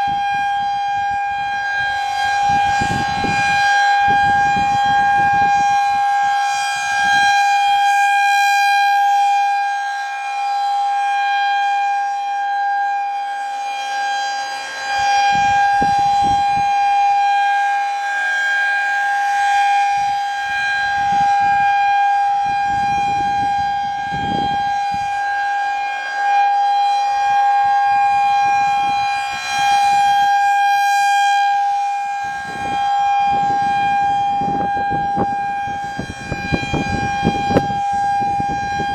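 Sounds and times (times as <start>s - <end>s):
rotating tornado siren: 0.0s - 38.9s.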